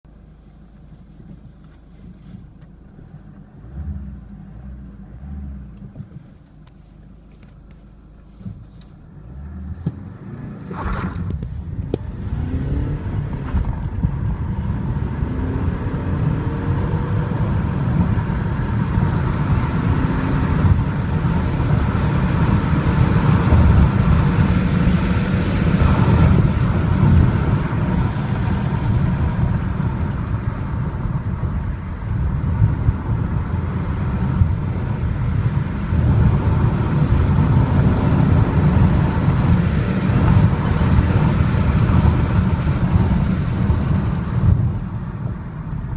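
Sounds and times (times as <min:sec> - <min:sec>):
diesel car engine accelerating: 0:00.1 - 0:45.9
road and wind noise: 0:00.1 - 0:45.9.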